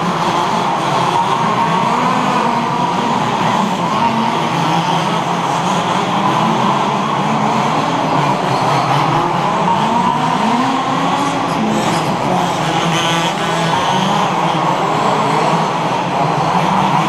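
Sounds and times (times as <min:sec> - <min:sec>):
rc buggy engines revving: 0:00.0 - 0:17.0.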